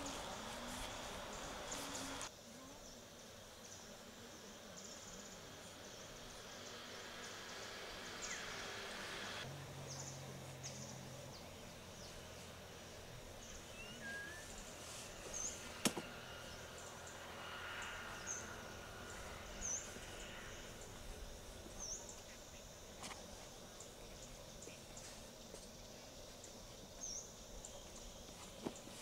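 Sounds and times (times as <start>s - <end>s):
insects hissing: 0.0s - 29.0s.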